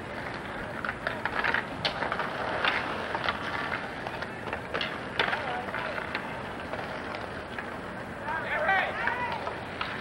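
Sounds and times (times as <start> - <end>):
hockey sticks clacking: 0.0 - 10.0.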